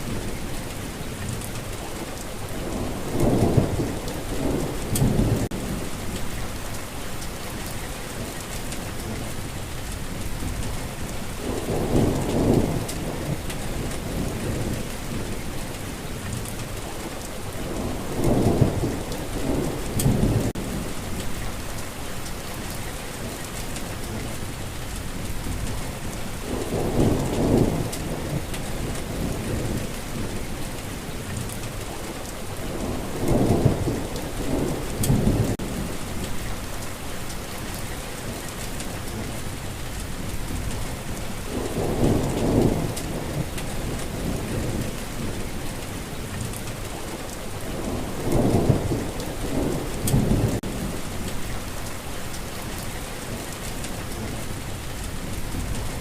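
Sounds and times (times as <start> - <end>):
steady rainfall: 0.0 - 56.0
low thunder rumbling: 2.5 - 7.7, 8.8 - 16.7, 17.5 - 21.8, 23.5 - 56.0.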